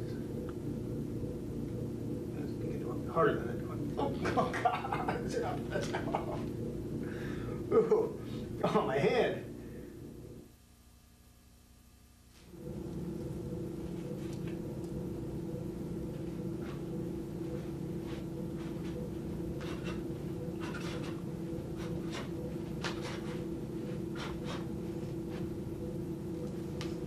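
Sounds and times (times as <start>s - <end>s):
steady pitched tones: 0.0s - 10.6s, 12.5s - 27.0s
low electrical hum: 0.0s - 27.0s.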